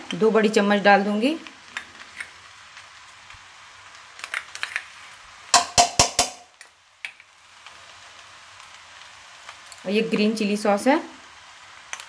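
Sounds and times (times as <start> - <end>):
rice frying hiss: 0.0 - 12.0.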